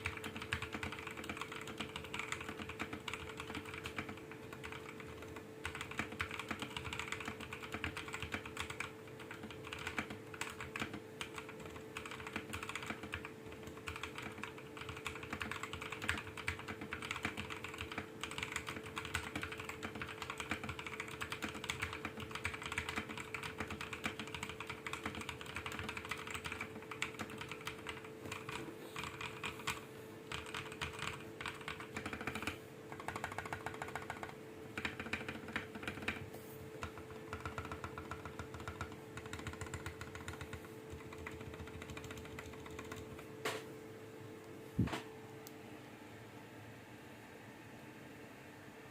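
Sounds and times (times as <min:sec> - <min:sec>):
mechanical keyboard typing: 0:00.0 - 0:43.2
steady hum: 0:00.0 - 0:48.9.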